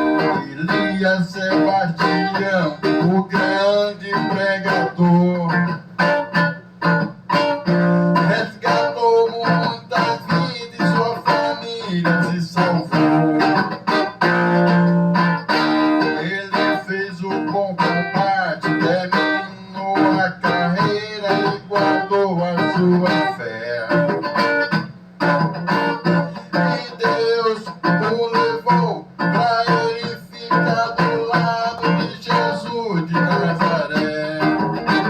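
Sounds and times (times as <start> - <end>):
backing accompaniment: 0.0 - 35.0
guitar lead melody: 0.0 - 35.0.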